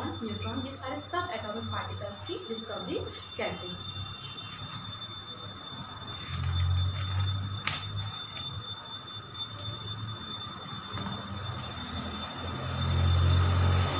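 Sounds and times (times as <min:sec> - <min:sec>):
faint high whine: 0:00.0 - 0:13.9.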